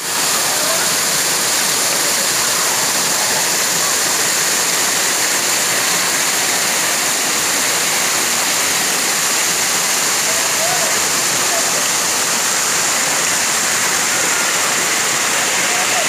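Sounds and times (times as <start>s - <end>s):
rush of falling water: 0.0s - 16.0s.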